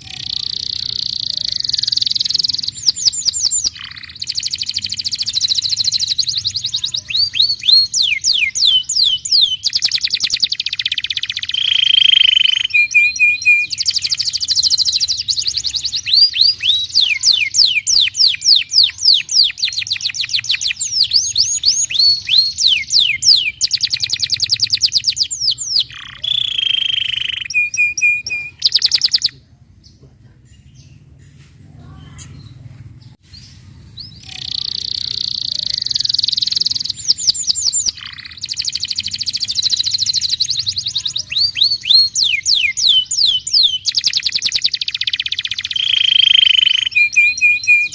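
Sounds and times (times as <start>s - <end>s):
canary singing: 0.0s - 29.4s, 32.0s - 47.9s.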